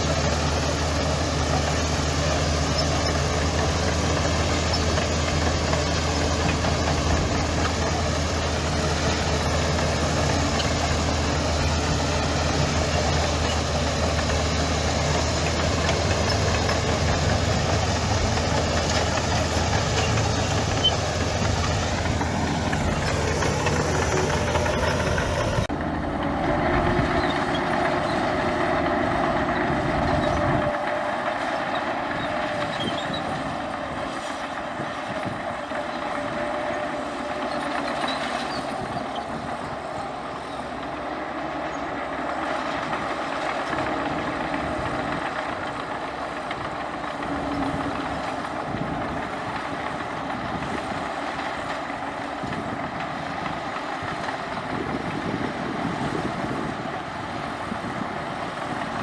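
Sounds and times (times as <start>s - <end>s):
heavy machinery engine rumble: 0.0s - 59.0s.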